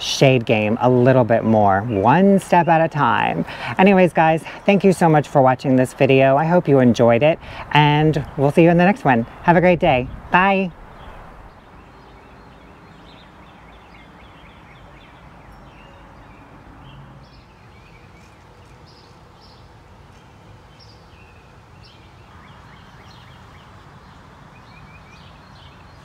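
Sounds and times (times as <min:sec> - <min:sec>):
low background noise: 0:00.0 - 0:26.0
small birds chirping: 0:00.0 - 0:26.0.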